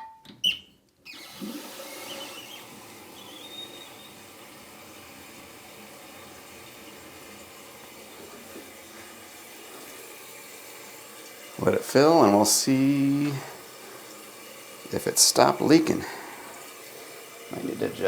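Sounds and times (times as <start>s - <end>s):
toilet tank refilling hiss: 1.1s - 18.0s.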